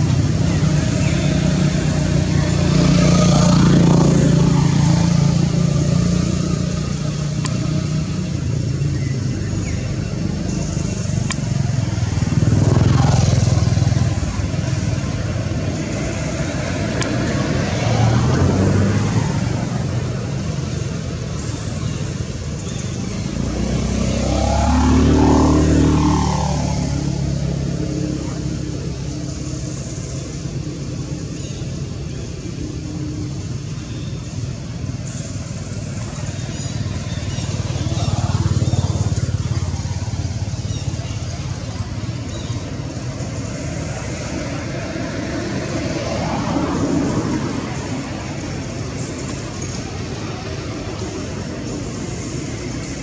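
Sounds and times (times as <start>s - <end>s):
low traffic rumble: 0.0s - 53.0s
motor vehicles passing: 0.0s - 53.0s.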